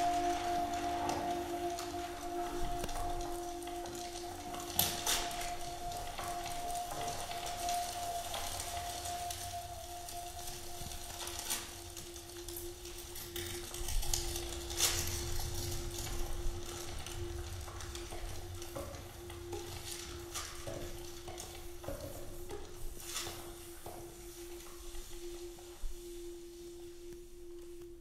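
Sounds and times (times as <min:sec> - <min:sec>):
paper crinkling: 0:00.0 - 0:25.6.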